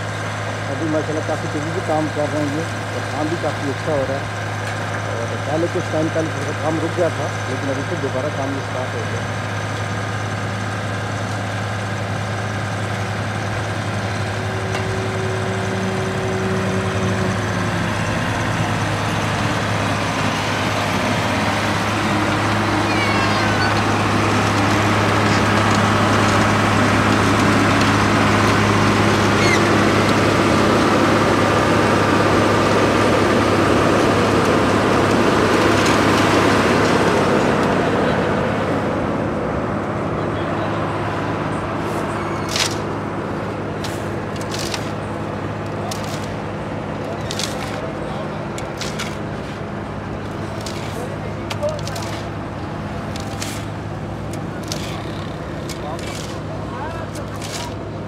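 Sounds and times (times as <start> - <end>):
paver diesel engine running: 0.0 - 58.0.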